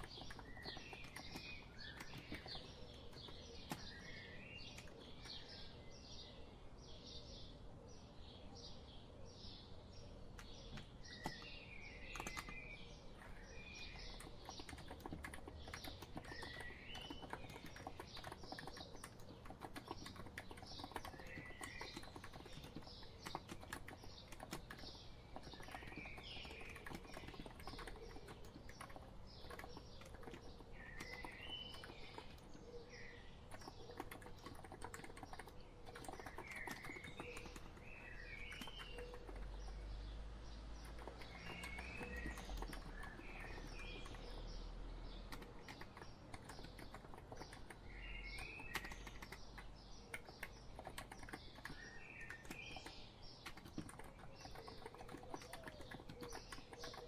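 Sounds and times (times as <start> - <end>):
soft keyboard typing: 0.0 - 5.7, 10.3 - 57.0
bird chirping: 0.0 - 57.0.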